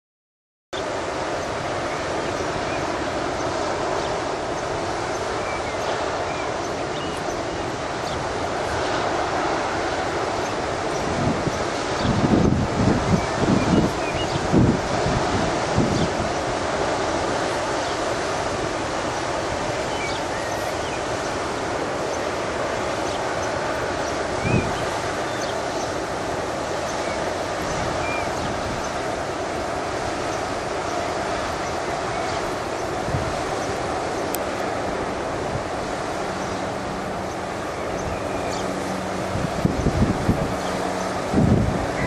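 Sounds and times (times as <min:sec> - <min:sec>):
wind buffeting microphone: 0:00.8 - 0:42.0.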